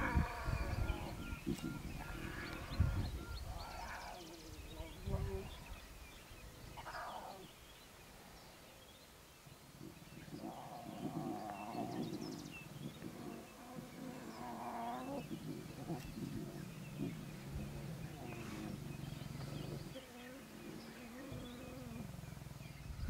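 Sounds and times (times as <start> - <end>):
lion cubs growling: 0.0 - 8.4, 9.8 - 22.8.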